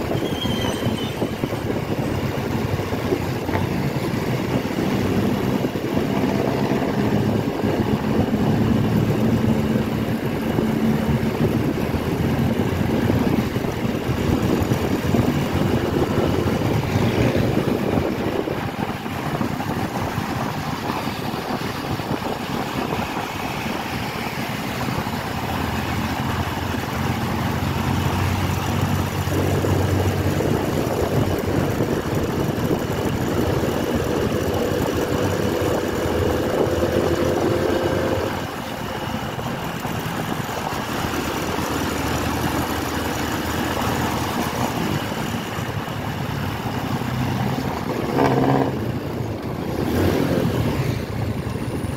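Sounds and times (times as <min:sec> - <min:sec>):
dense rushing noise: 0:00.0 - 0:51.9
motorcycle engine running: 0:00.0 - 0:51.9.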